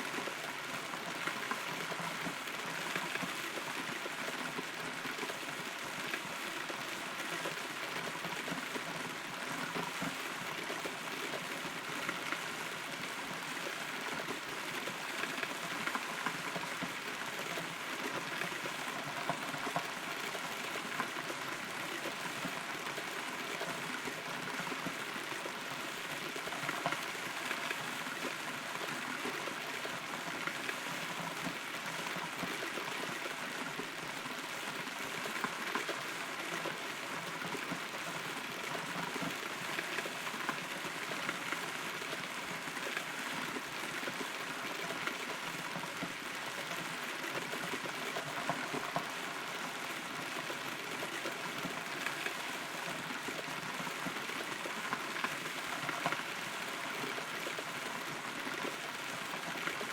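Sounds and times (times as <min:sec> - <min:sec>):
steady rain: 0:00.0 - 0:59.9
raindrops tapping close by: 0:00.2 - 0:59.9.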